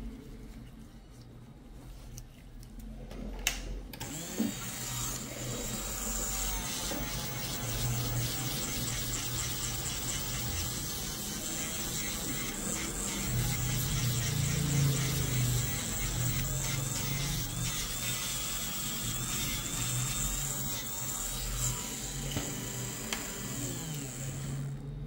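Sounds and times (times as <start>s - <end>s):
electric nail drill running: 4.0s - 24.8s.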